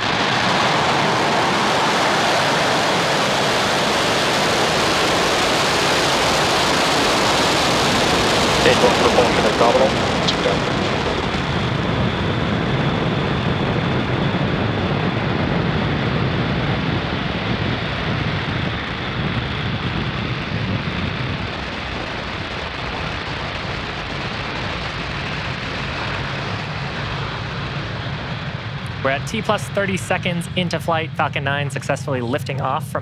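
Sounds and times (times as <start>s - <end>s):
rocket engines roaring: 0.0s - 33.0s.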